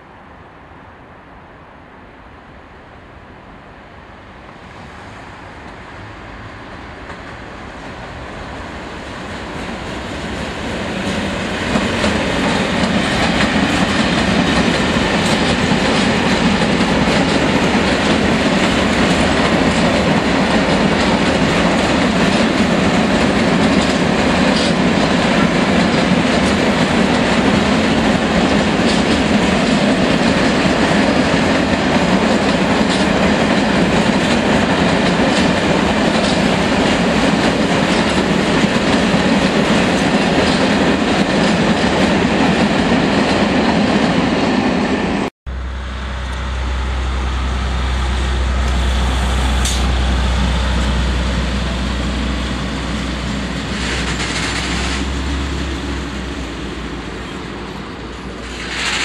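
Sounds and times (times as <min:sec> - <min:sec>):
diesel locomotive engine drone: 0:00.0 - 0:59.0
freight train wheels rumbling: 0:03.0 - 0:59.0.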